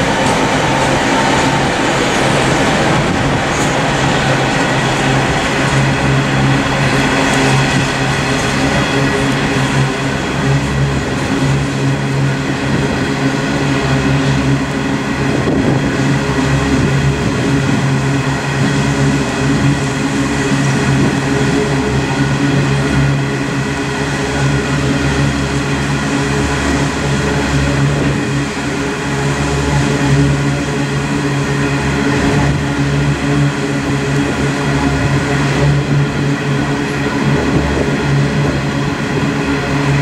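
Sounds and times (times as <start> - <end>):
wind noise: 0.0 - 23.8, 29.7 - 40.0
diesel locomotives humming: 0.0 - 40.0.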